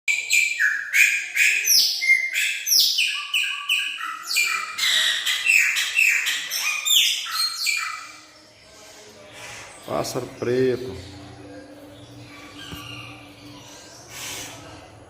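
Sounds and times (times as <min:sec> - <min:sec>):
blackbird singing: 0:00.1 - 0:08.6, 0:09.5 - 0:14.7.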